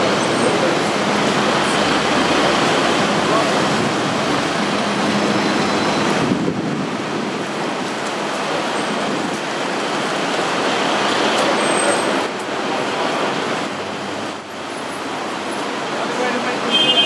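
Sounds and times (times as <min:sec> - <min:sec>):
passing cars and vans: 0:00.0 - 0:17.0.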